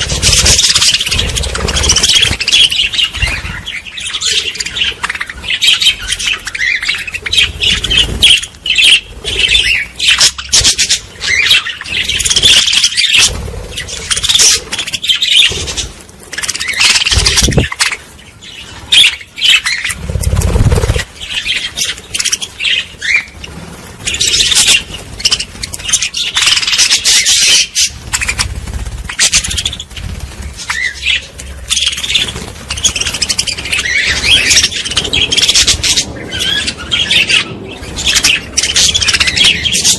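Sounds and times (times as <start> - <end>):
small birds chirping and squawking: 0.0 - 39.9.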